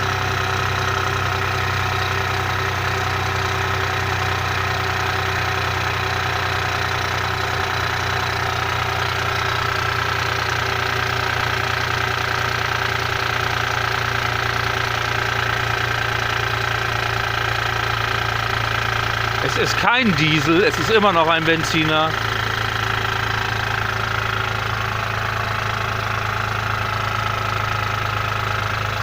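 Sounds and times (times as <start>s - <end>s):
car engine idling with clatter: 0.0s - 29.0s.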